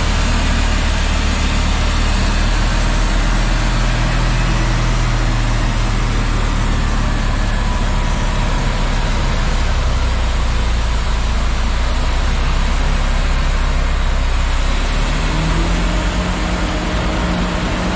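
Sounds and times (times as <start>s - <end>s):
heavy diesel engine drone: 0.0s - 17.9s
snowblower rushing: 0.0s - 17.9s.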